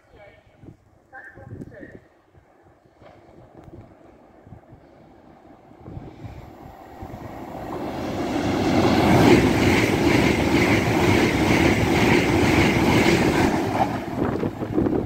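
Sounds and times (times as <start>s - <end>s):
high-speed train passing: 2.0s - 15.0s.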